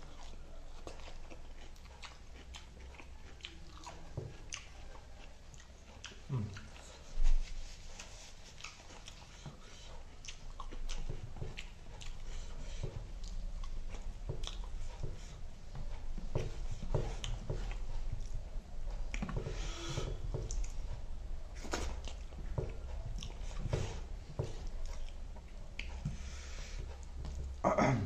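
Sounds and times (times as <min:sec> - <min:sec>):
chewing and biting: 0:00.0 - 0:19.4, 0:21.6 - 0:26.2.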